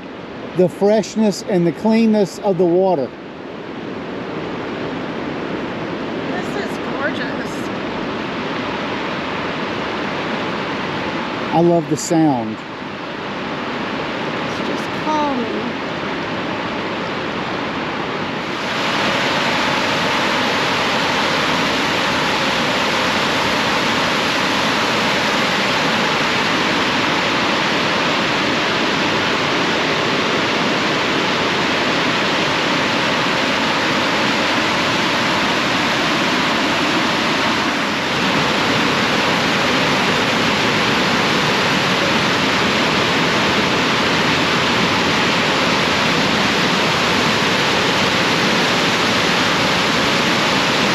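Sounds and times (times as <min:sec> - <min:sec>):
large waterfall rushing: 0:00.0 - 0:50.9.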